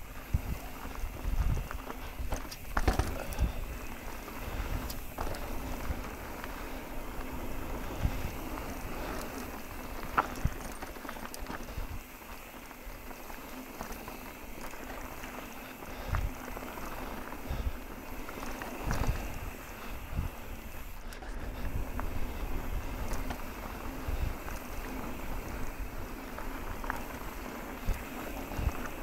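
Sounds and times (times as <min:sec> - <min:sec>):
bike knocking and rattling: 0:00.0 - 0:29.0
tyres rolling on dirt trail: 0:00.0 - 0:29.0.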